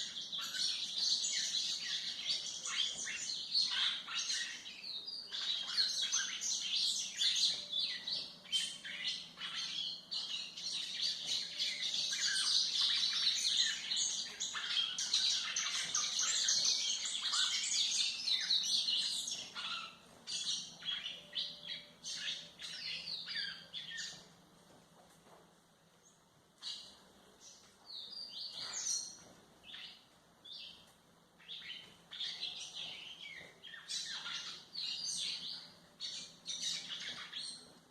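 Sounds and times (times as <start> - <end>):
bird twittering song: 0.0 - 24.4, 26.0 - 37.9.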